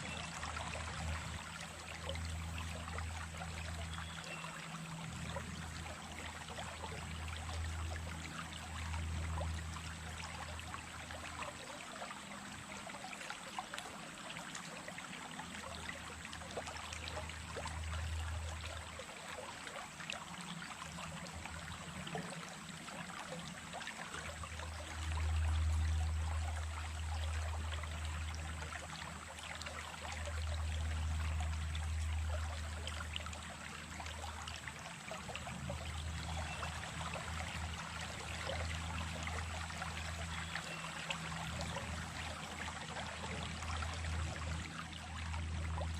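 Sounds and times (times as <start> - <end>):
stream babbling: 0.0 - 45.9.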